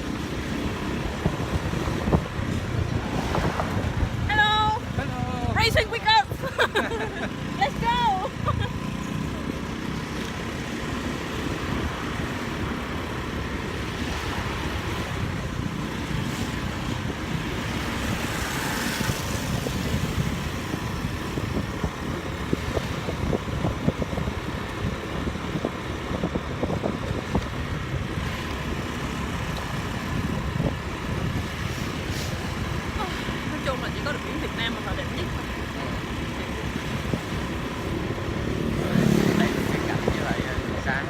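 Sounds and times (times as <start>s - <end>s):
motorbike engine: 0.0s - 41.0s
road noise: 0.0s - 41.0s.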